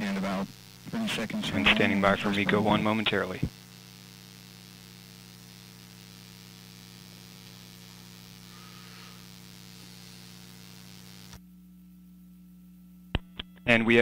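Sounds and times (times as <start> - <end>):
steady hiss: 0.0 - 11.4
low electrical hum: 0.0 - 14.0.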